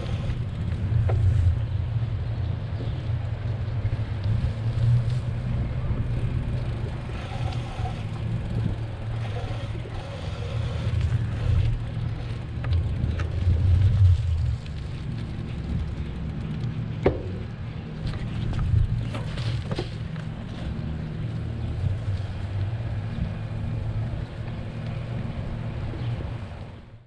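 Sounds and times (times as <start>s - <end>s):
tyres rolling on pavement: 0.0s - 27.0s
wind buffeting microphone: 0.0s - 27.0s.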